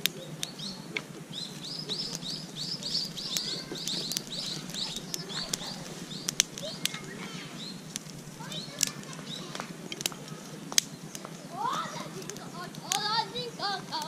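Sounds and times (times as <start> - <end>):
bird chirping: 0.0 - 14.0
campfire crackling and popping: 0.0 - 14.0.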